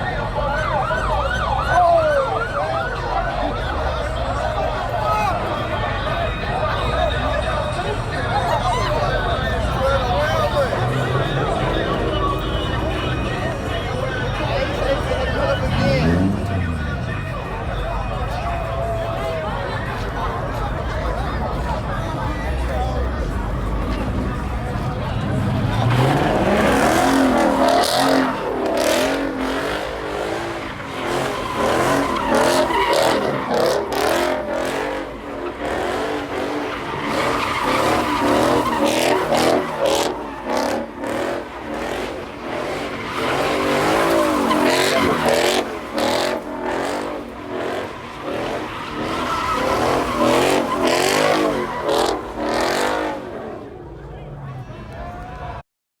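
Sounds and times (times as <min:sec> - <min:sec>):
car tires squealing: 0:00.0 - 0:54.0.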